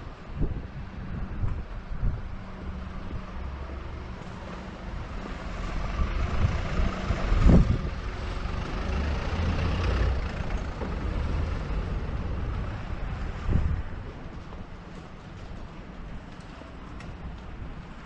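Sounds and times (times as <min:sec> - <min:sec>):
vehicle rumble in motion: 0:00.0 - 0:18.0.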